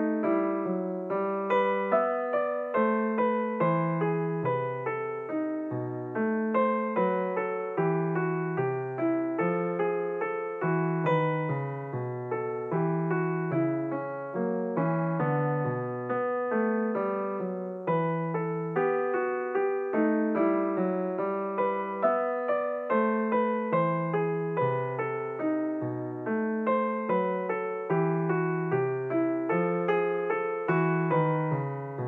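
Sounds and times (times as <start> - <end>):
flowing piano music: 0.0 - 32.0.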